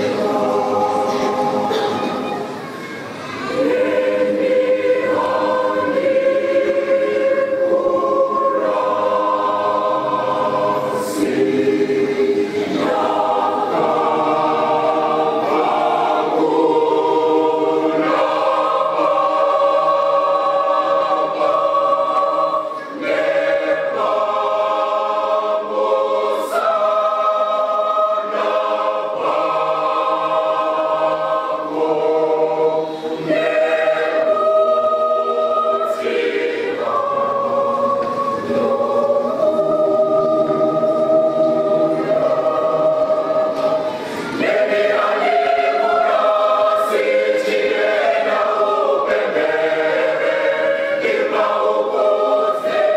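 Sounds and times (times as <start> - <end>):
mixed choir singing in harmony: 0.0 - 52.9.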